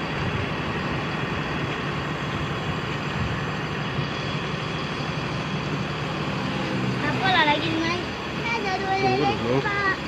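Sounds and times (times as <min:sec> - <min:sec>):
bus engine and road noise: 0:00.0 - 0:10.0.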